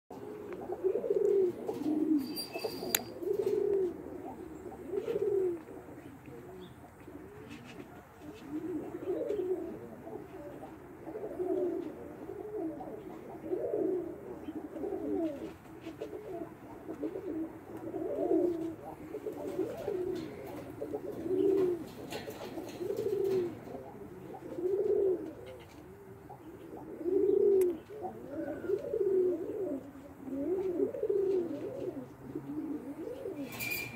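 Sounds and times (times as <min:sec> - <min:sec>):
pigeon cooing: 0:00.1 - 0:33.9.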